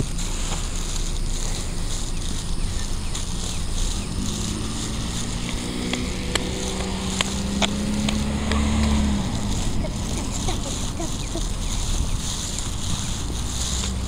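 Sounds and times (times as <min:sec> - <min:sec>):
insects chirring: 0:00.0 - 0:14.0
low rumble: 0:00.0 - 0:14.0
sharp clicks: 0:00.0 - 0:14.0
vehicle engine humming: 0:00.0 - 0:14.0.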